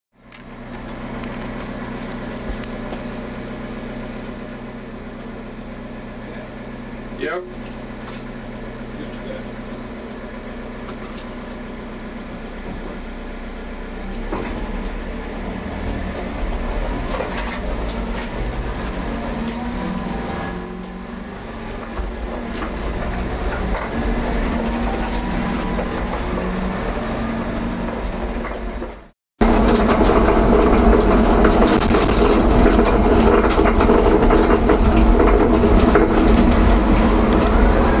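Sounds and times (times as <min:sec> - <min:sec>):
vehicle engine and road noise: 0:00.1 - 0:38.0.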